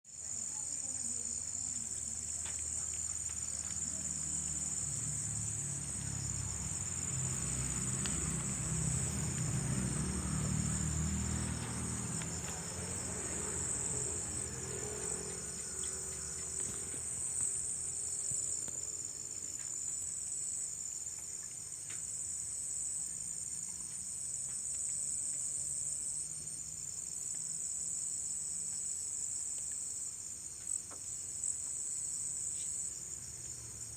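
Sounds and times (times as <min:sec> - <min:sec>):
night insects chirping: 0:00.1 - 0:33.9.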